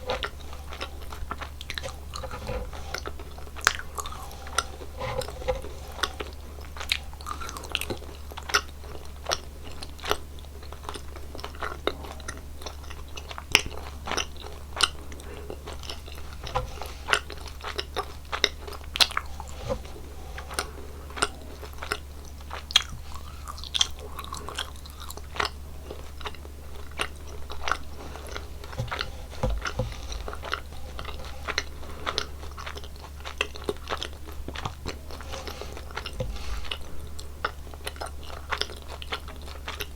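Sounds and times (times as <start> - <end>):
mouth chewing gummy candies: 0.0 - 39.9.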